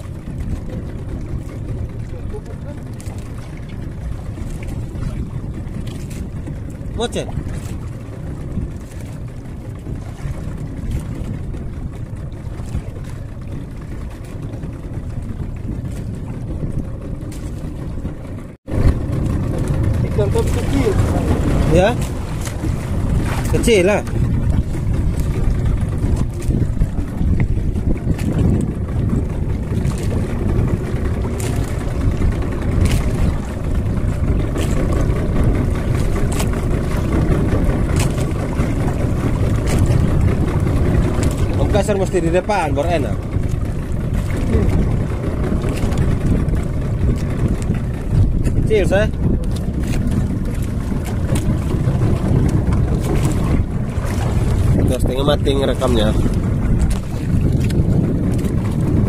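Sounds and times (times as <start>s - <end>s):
boat engine rumble: 0.0s - 59.0s
water around hull: 0.0s - 59.0s
wind: 0.0s - 59.0s.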